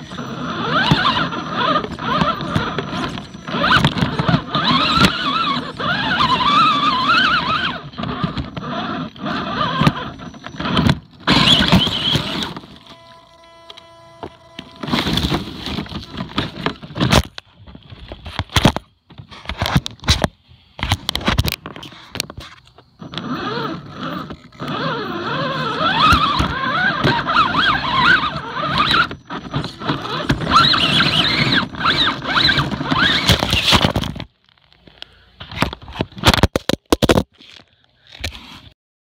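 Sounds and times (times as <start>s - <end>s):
electric motor and gears whining: 0.0s - 18.8s, 19.4s - 34.8s.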